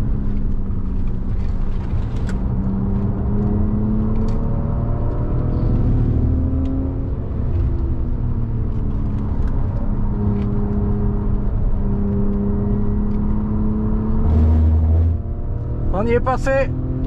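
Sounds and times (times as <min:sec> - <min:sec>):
car engine at speed: 0:00.0 - 0:17.0
tyre and road rumble: 0:00.0 - 0:17.0.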